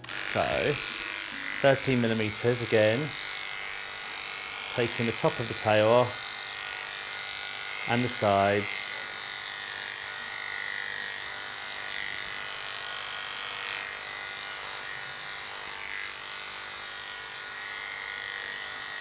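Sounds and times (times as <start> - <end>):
electric clippers buzzing: 0.0 - 19.0.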